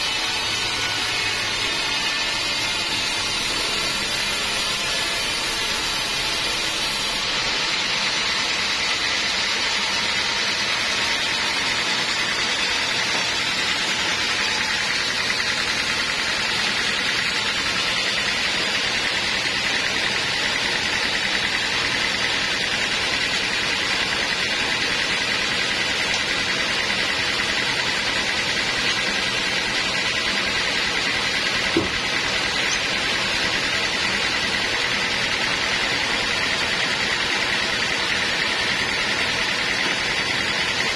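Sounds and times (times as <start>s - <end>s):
sawmill saw cutting logs: 0.0s - 40.9s.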